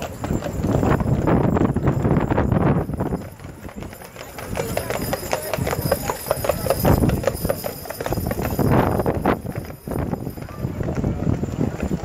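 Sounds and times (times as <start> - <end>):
horse hooves clip-clopping on tarmac: 0.0 - 12.0.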